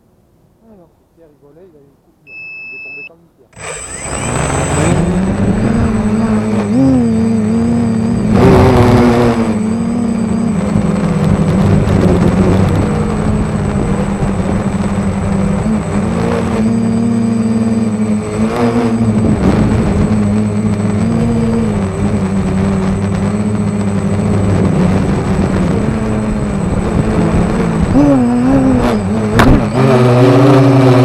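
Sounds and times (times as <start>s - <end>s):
drone motors buzzing: 3.5s - 31.0s.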